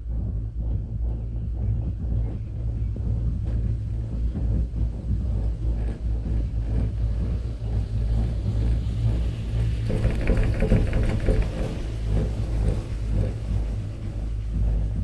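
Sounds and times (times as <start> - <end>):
cable car low rumble: 0.0 - 15.0.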